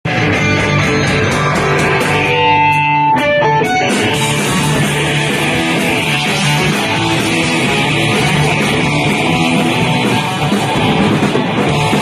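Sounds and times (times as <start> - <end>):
drums: 0.0 - 12.0
electric guitars: 0.0 - 12.0.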